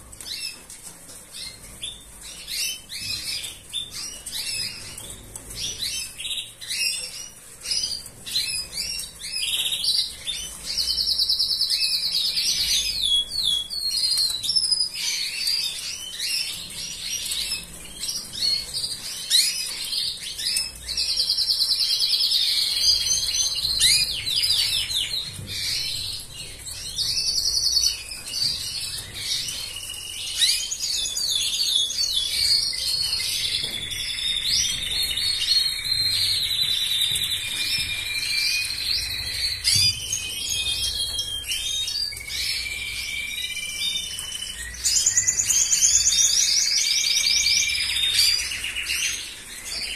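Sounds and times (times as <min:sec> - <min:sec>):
canary singing and trilling: 0:00.0 - 0:49.9.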